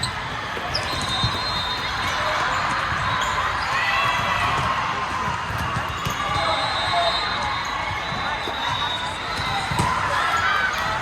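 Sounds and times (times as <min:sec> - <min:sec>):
crowd and court noise: 0:00.0 - 0:11.0.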